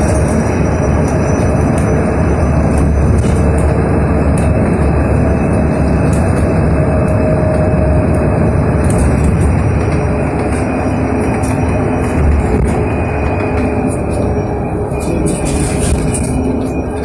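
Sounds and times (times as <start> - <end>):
road and tyre rumble: 0.0 - 17.0.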